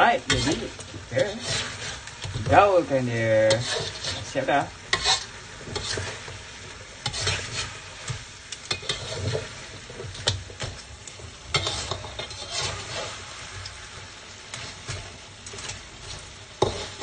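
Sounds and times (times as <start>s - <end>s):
spatula scraping metal wok: 0.0s - 10.8s, 11.5s - 13.5s, 14.5s - 17.0s
sauce sizzling: 0.0s - 17.0s.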